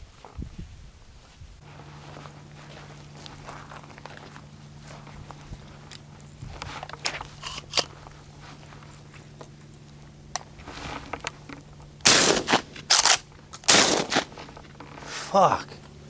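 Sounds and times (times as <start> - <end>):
footsteps crunching on dry ground: 0.0 - 16.0
steady low hum: 0.0 - 16.0.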